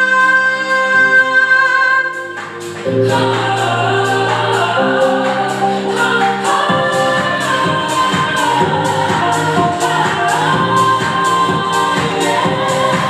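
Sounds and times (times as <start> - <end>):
backing track music: 0.0 - 13.0
girl singing: 0.0 - 13.0.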